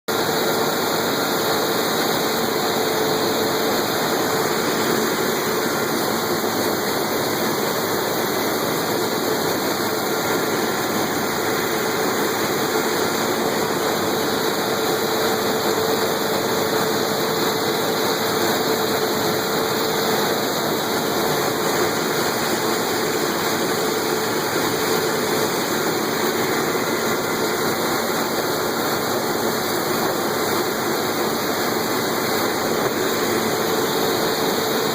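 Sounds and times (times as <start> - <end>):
machinery engine running: 0.1 - 34.9.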